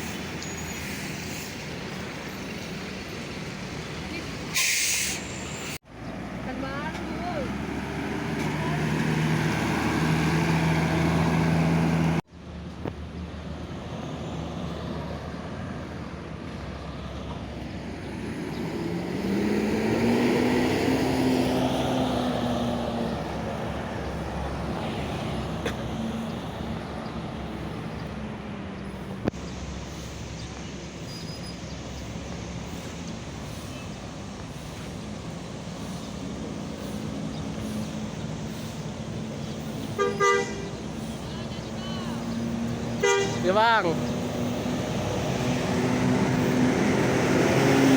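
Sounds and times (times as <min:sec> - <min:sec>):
bus driving past: 0:00.0 - 0:47.9
heavy bus engines running: 0:00.0 - 0:47.9.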